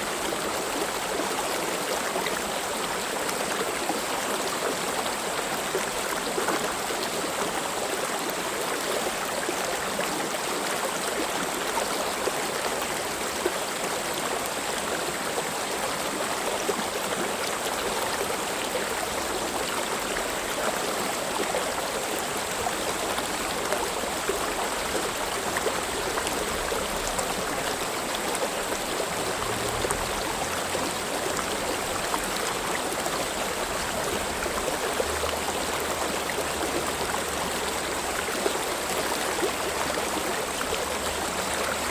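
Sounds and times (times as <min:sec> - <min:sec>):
stream flowing: 0:00.0 - 0:41.9.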